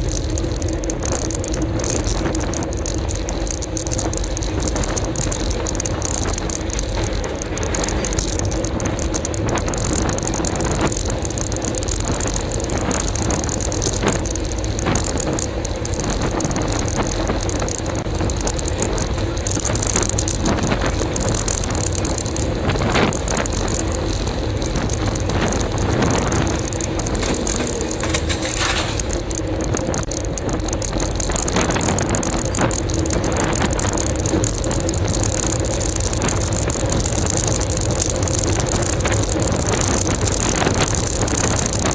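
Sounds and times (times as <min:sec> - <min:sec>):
bicycle ride noise on road: 0:00.0 - 0:41.9.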